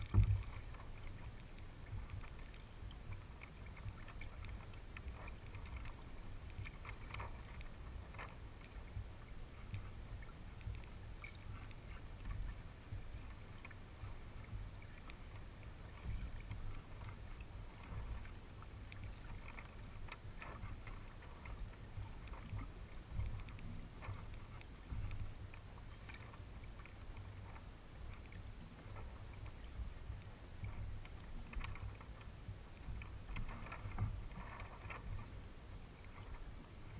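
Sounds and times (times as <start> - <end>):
low uneven rumble: 0.0 - 36.9
water lapping against hull: 0.0 - 36.9.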